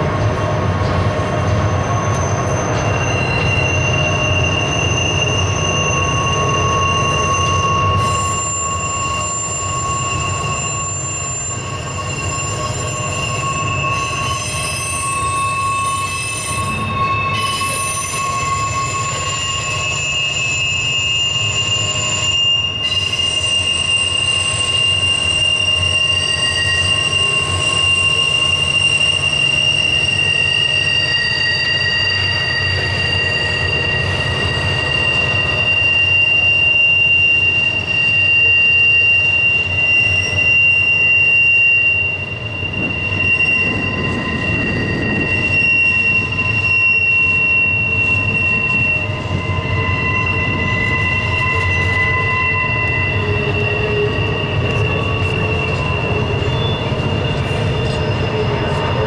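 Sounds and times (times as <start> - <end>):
low rumble of train wheels: 0.0 - 59.0
wheel flanges squealing on rail: 0.0 - 59.0.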